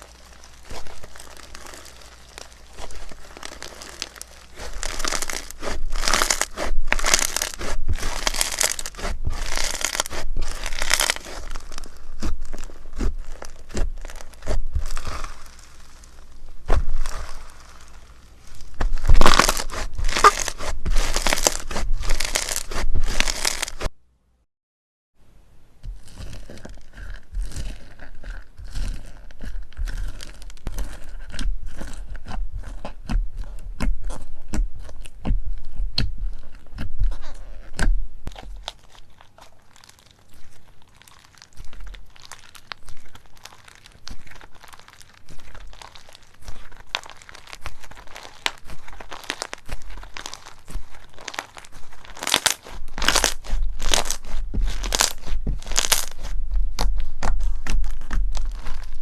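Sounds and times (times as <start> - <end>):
slime crackling and popping: 0.0 - 23.9, 25.8 - 59.0.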